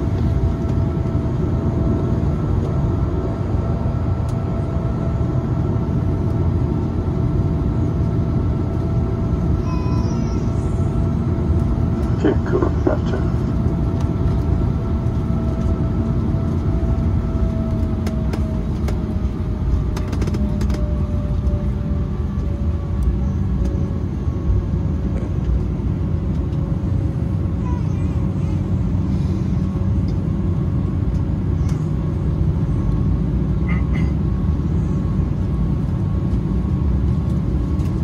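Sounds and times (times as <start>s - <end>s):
jet engine whine: 0.0s - 38.0s
low cabin rumble: 0.0s - 38.0s.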